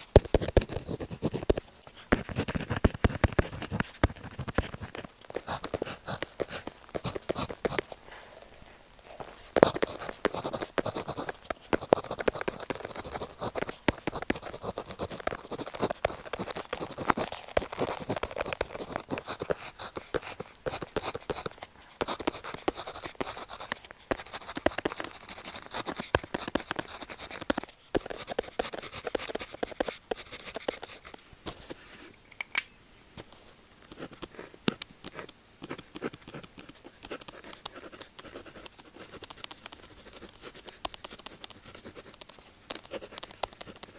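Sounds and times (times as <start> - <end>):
pen scratching on paper: 0.0 - 7.9, 9.6 - 31.2, 33.9 - 43.9.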